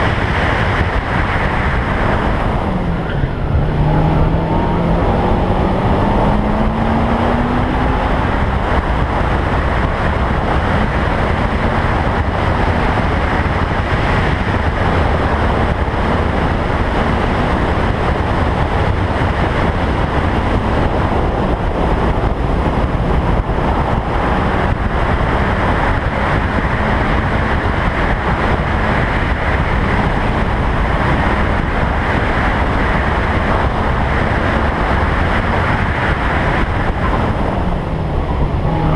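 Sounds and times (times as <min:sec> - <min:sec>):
faint car engine: 0:00.0 - 0:38.9
wind rushing over microphone: 0:00.0 - 0:38.9.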